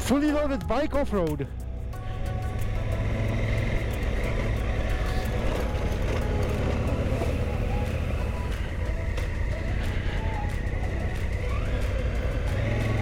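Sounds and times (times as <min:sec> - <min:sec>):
motorcycle engine running: 0:01.7 - 0:13.0.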